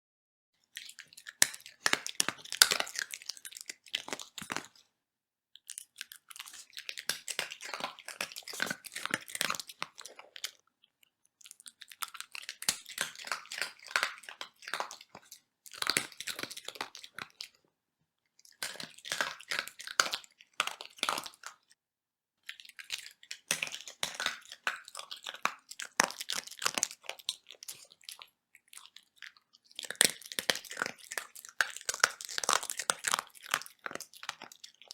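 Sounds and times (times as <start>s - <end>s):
dog crunching hard biscuits: 0.7s - 4.8s, 5.6s - 10.6s, 11.4s - 17.6s, 18.5s - 21.7s, 22.4s - 34.9s.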